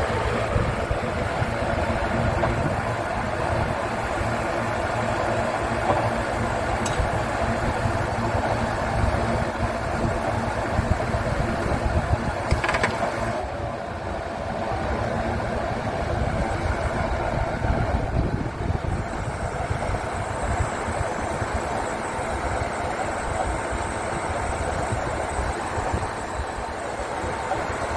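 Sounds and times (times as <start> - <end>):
diesel truck engine running: 0.0 - 27.9.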